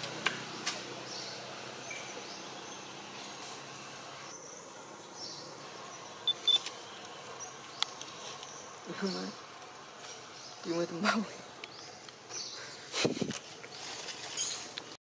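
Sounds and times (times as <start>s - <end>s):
faint birds and insects: 0.0s - 15.0s
steady background hiss: 0.0s - 15.0s.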